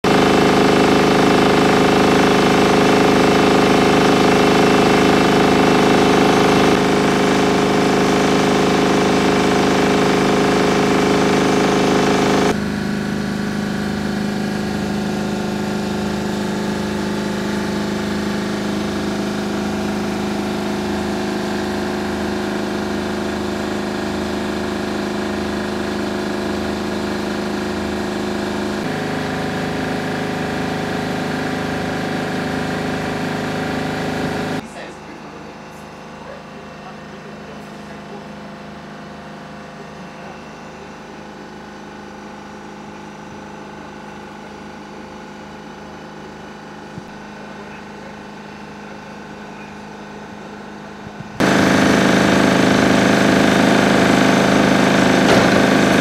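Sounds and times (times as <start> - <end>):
generator engine running: 0.0 - 56.0.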